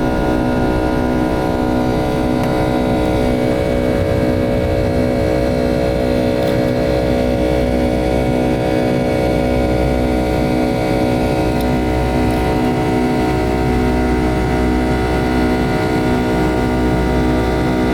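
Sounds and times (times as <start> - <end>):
jet engines droning in cabin: 0.0 - 17.9.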